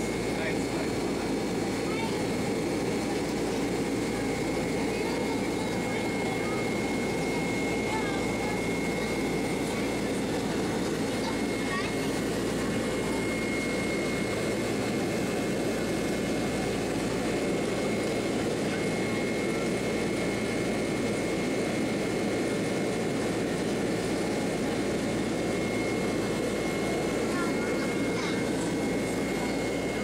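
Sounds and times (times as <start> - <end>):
high engine whine: 0.0 - 30.0
jet engine roar: 0.0 - 30.0.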